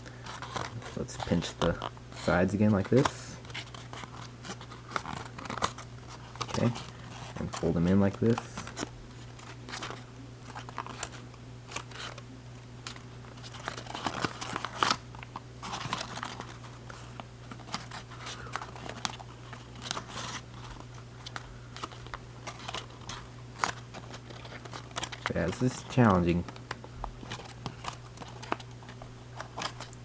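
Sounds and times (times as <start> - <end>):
steady low hum: 0.0 - 30.0
paper crinkling: 0.1 - 12.2, 12.8 - 30.0.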